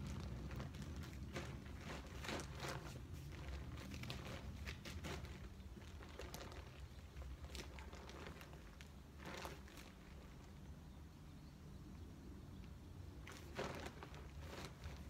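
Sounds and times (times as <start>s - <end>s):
tent fabric rustling: 0.0s - 10.7s, 13.2s - 15.0s.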